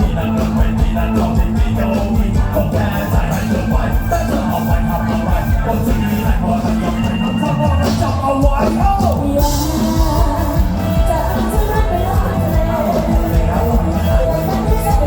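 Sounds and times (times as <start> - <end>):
bass beat and drum hits: 0.0 - 15.0
live band music: 0.0 - 15.0
woman singing: 0.0 - 15.0.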